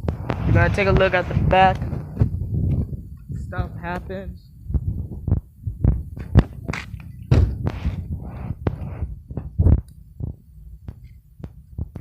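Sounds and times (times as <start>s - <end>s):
footsteps: 0.0s - 12.0s.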